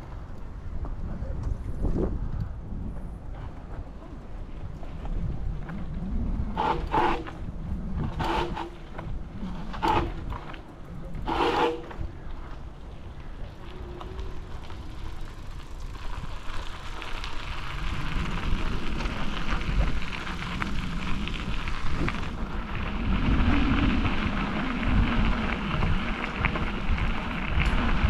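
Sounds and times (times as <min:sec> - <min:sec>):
wind rumbling on microphone: 0:00.0 - 0:28.0
bicycle tyres crackling: 0:02.6 - 0:28.0.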